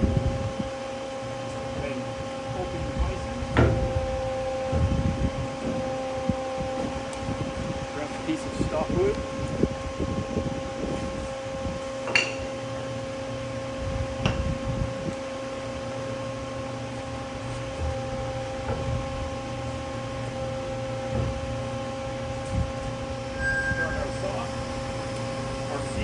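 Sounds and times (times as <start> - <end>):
hydraulic unit humming: 0.0 - 26.0.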